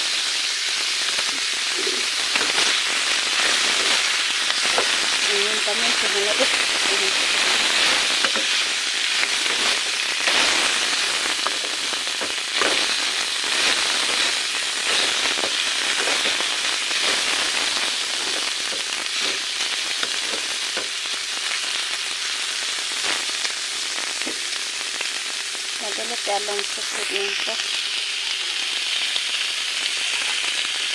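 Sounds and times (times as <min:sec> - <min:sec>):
food frying in hot oil: 0:00.0 - 0:30.9.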